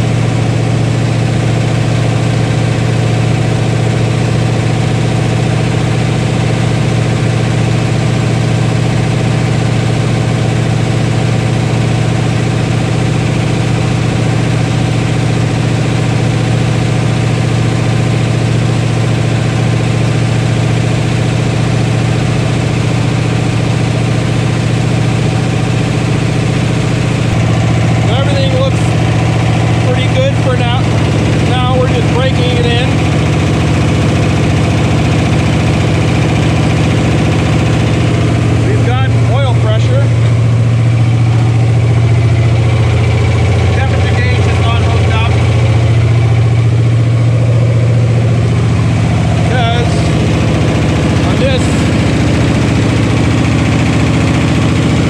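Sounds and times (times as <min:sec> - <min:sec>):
engine running through straight pipes: 0:00.0 - 0:55.0.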